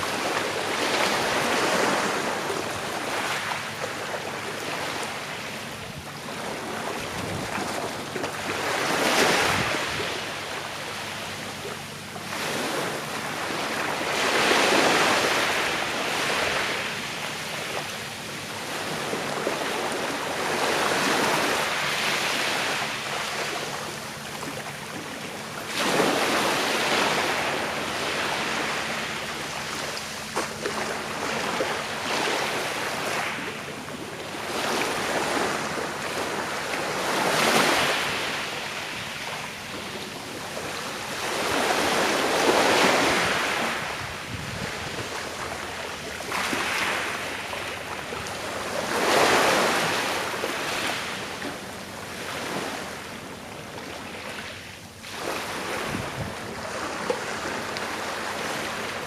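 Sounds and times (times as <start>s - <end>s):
small waves breaking on shore: 0.0s - 59.0s.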